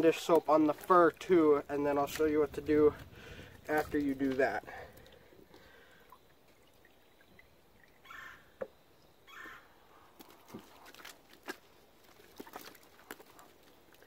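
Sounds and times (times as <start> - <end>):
soapy water dripping and splashing: 0.0 - 8.0, 10.2 - 14.0.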